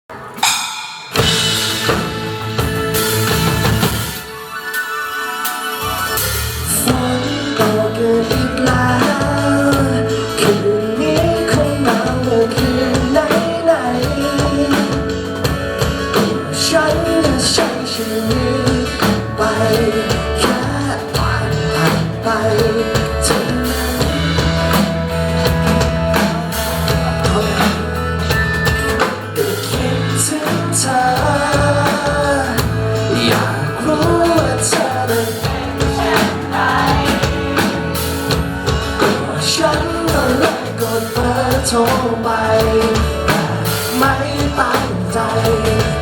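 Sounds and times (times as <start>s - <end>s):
drum kit: 0.0s - 46.0s
wavering melodic lead line: 0.4s - 46.0s
bass guitar: 1.2s - 4.4s, 5.8s - 46.0s.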